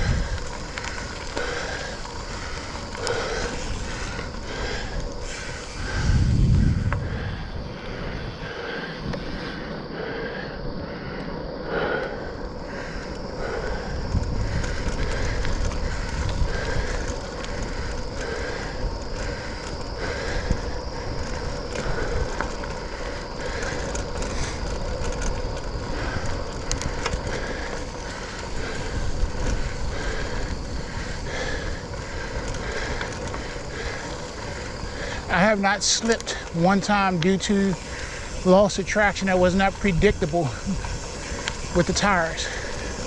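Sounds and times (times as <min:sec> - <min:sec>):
wind rumble on microphone: 0:00.0 - 0:35.3
bicycle tyres and drivetrain rolling: 0:00.0 - 0:43.0.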